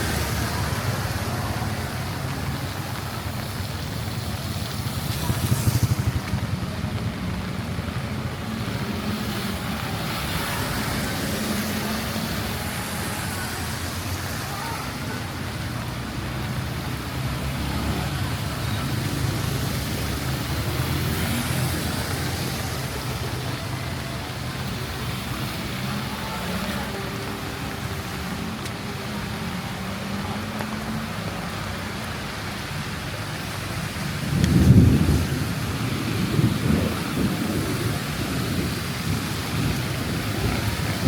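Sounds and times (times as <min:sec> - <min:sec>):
rain hissing on wet road: 0:00.0 - 0:41.0
vehicle engine humming: 0:00.0 - 0:41.0.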